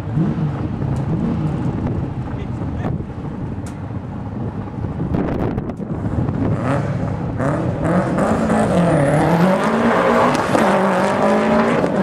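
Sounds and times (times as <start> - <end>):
car engine accelerating hard: 0.0 - 3.6, 4.2 - 12.0.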